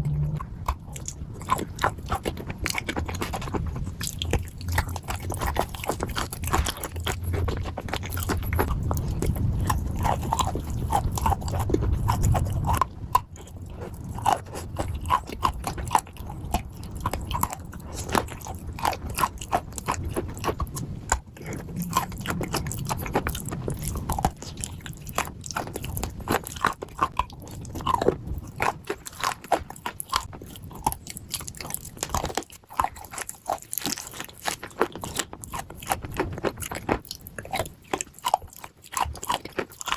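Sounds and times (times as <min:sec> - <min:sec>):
person chewing crunchy clay: 0:00.0 - 0:39.9.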